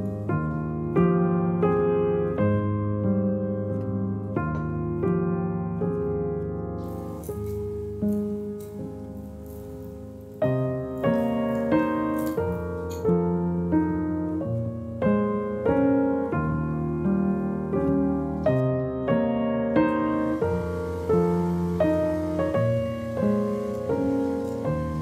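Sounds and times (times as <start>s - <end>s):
gentle piano melody: 0.0s - 25.0s.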